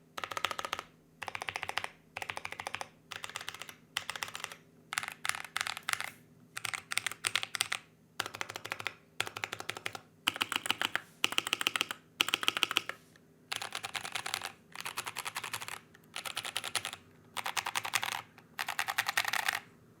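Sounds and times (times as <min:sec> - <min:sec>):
mechanical keyboard typing: 0:00.2 - 0:19.7.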